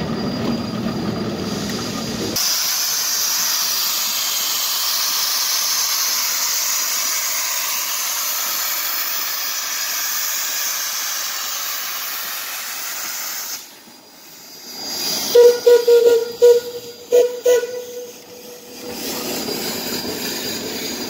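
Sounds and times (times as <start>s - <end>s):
steam locomotive venting steam: 0.0s - 21.0s.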